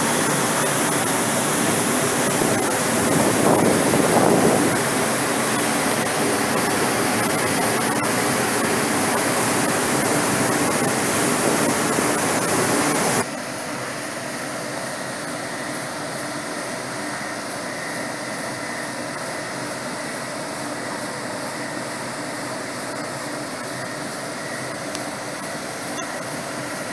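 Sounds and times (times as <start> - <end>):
loud rush of fan air: 0.0 - 26.9
machinery hum with tones: 0.0 - 26.9.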